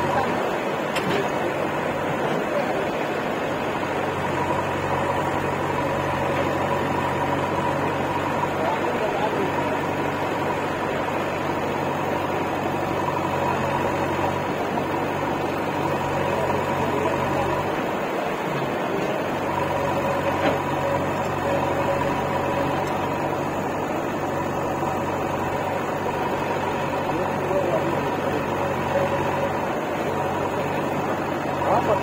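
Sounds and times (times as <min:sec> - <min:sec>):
diesel engines idling: 0:00.0 - 0:32.0.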